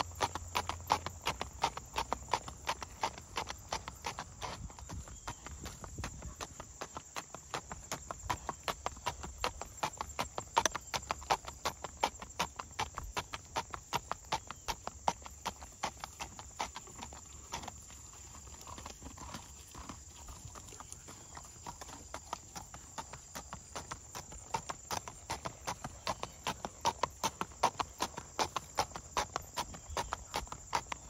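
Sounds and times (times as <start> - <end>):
horse hooves on pavement: 0.0 - 31.0.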